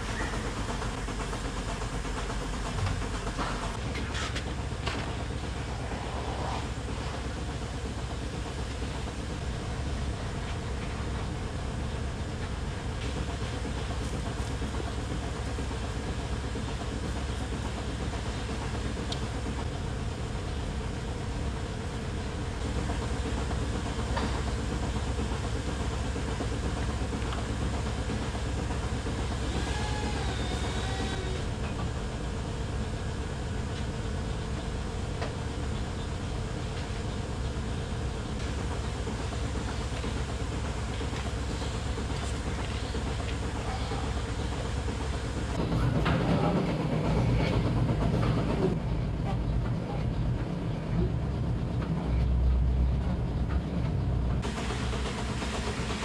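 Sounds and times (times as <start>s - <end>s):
milking machinery hum and hiss: 0.0s - 56.0s.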